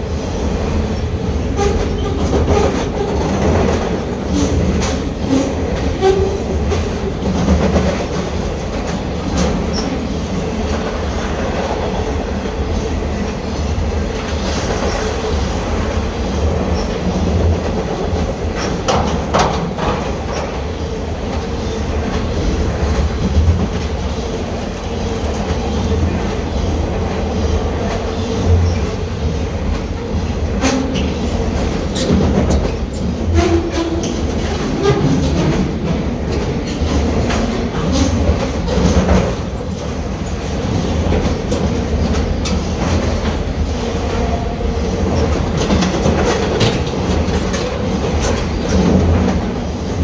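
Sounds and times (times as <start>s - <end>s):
train cars rumbling over bridge: 0.0s - 50.0s
wheels clacking on rail joints: 0.7s - 50.0s.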